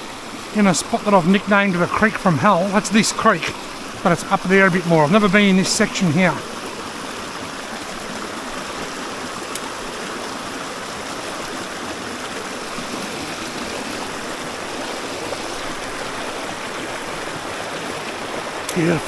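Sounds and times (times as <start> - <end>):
creek running over stones: 0.0 - 19.0.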